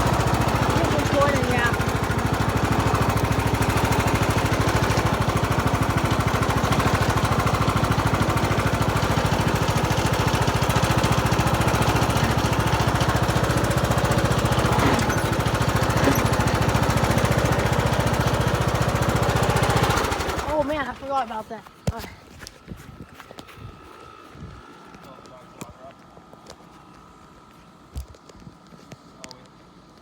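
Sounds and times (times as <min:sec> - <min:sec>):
riding lawn mower engine running: 0:00.0 - 0:21.8, 0:23.1 - 0:30.0.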